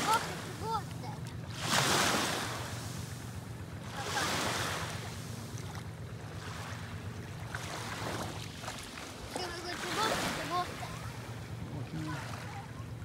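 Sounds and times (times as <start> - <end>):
waves washing onto sand: 0.0 - 12.6
low steady hum: 0.0 - 13.0.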